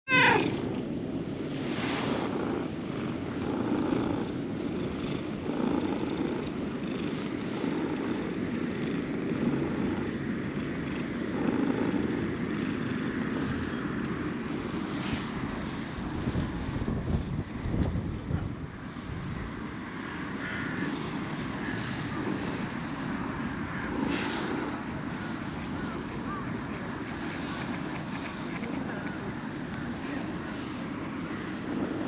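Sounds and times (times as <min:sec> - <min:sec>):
cat purring: 0:00.1 - 0:17.3, 0:20.8 - 0:32.0.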